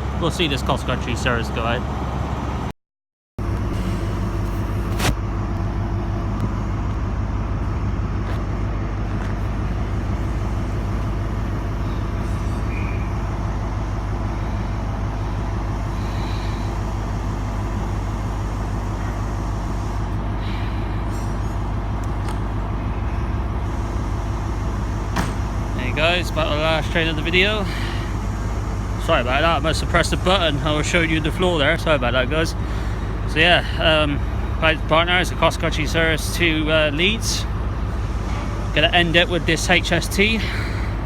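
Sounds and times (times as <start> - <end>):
diesel engines idling: 0.0 - 2.7, 3.4 - 41.0.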